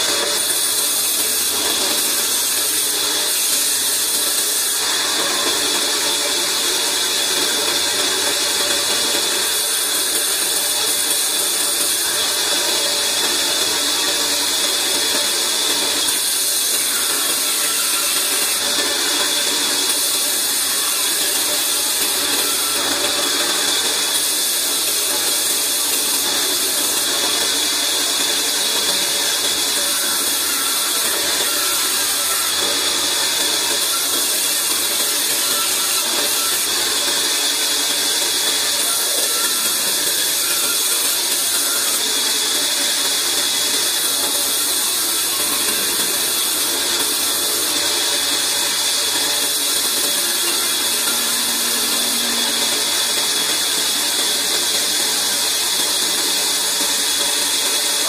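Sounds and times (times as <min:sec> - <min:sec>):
band saw whirring: 0:00.0 - 0:58.0.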